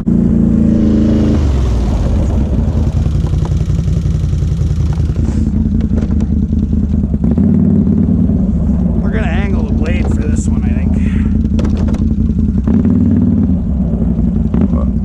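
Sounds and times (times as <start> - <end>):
atv engine under load: 0.0 - 15.0.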